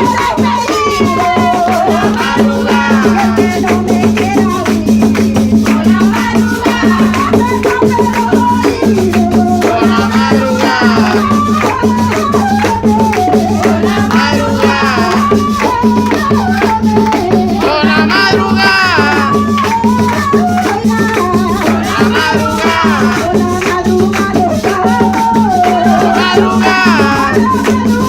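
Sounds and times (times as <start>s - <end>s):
rattling percussion beat: 0.0s - 28.0s.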